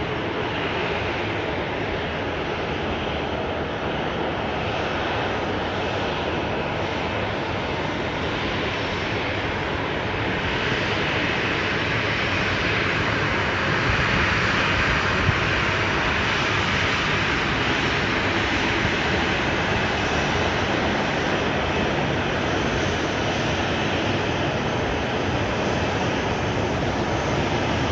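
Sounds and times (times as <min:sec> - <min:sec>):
airliner jet engines: 0:00.0 - 0:27.9.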